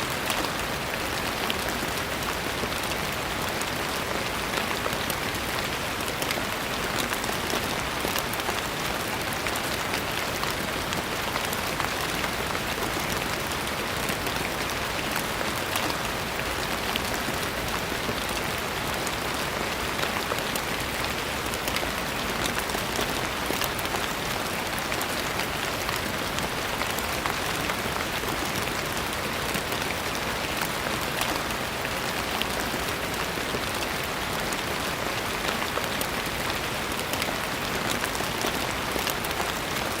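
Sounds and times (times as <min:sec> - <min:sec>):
rain on a hard surface: 0:00.0 - 0:40.0.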